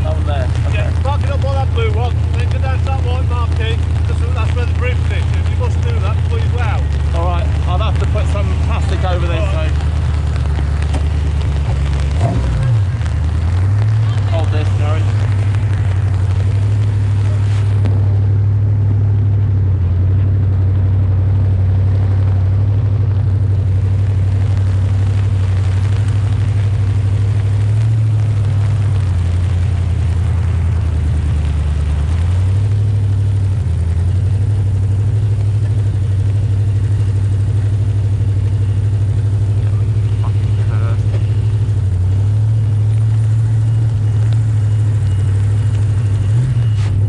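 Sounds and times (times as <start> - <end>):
car engine running: 0.0 - 47.0.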